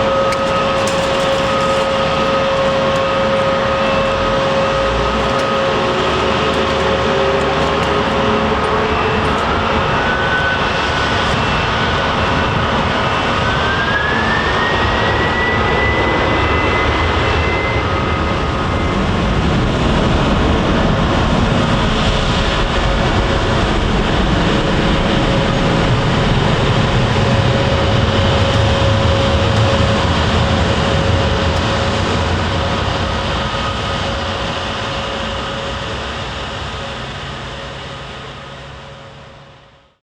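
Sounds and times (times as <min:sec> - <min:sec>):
jet engine low rumble: 0:00.0 - 0:40.0
jet engine whine: 0:00.0 - 0:40.0.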